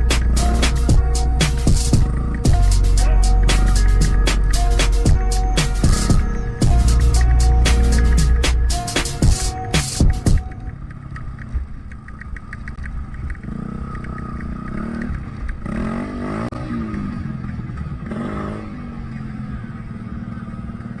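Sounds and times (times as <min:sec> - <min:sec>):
dirt bike engine revving: 0:00.0 - 0:10.5, 0:13.4 - 0:20.9.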